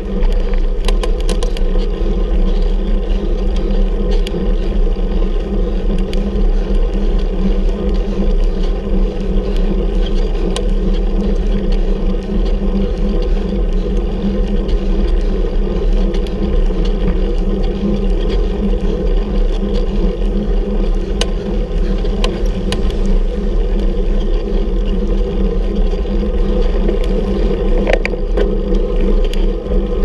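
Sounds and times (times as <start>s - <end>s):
road noise: 0.0s - 30.0s
rumbling wind on microphone: 0.0s - 30.0s
faint ticks: 0.2s - 29.5s.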